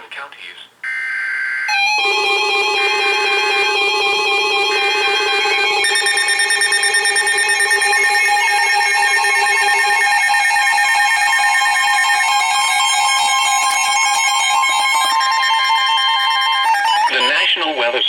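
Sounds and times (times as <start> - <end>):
weather radio alarms beeping: 0.8 - 17.9.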